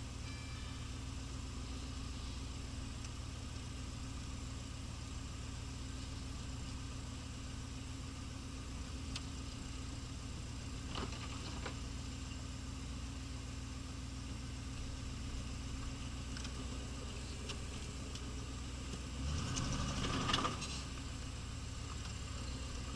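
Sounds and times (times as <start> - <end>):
car engine running steadily: 0.0 - 22.9.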